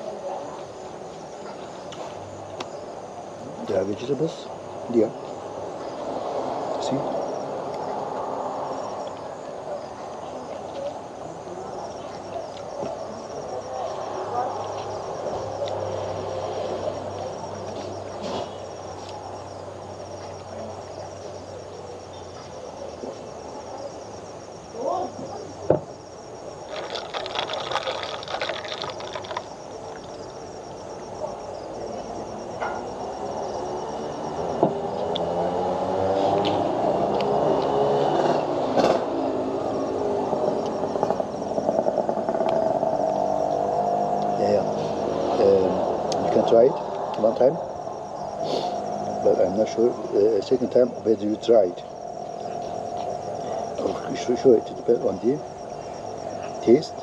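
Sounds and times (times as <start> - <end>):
background hiss and murmur: 0.0 - 57.0
insects chirping: 0.0 - 57.0.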